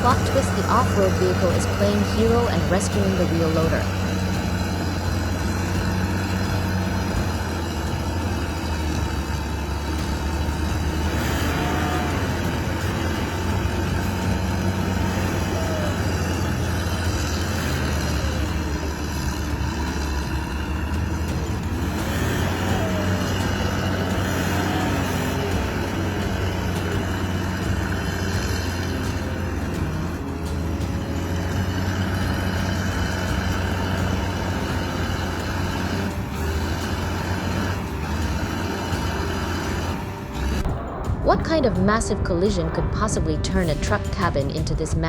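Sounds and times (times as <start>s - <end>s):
vehicle engines droning: 0.0s - 45.0s.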